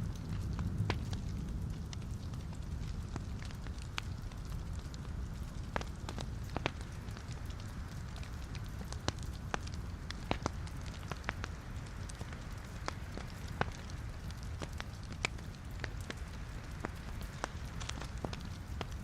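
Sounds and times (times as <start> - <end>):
burning wood crackling and popping: 0.0 - 19.0
low rumble of flame: 0.0 - 19.0.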